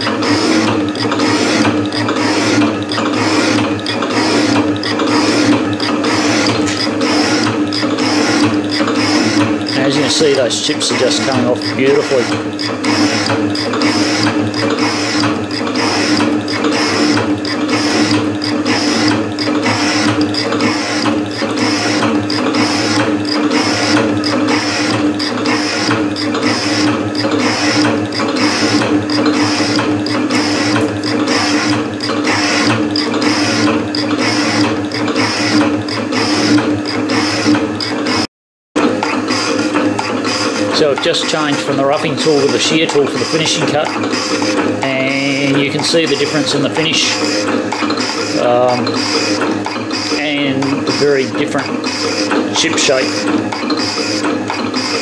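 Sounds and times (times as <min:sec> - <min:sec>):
metal shaper ram strokes: 0:00.0 - 0:38.2, 0:39.0 - 0:55.0
machine hum: 0:00.0 - 0:55.0.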